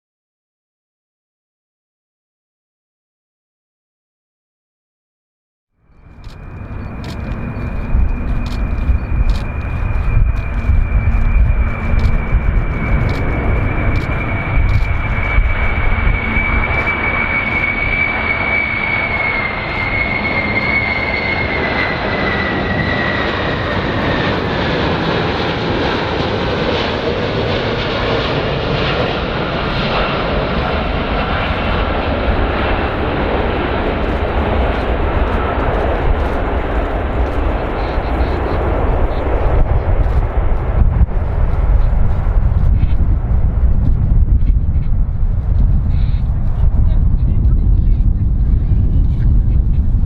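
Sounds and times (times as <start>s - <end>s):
aircraft engines running: 5.8s - 50.0s.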